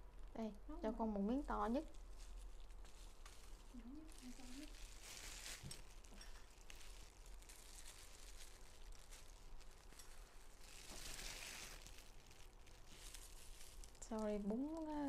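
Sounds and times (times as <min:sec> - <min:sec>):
faint rustling of food: 0:00.1 - 0:15.0.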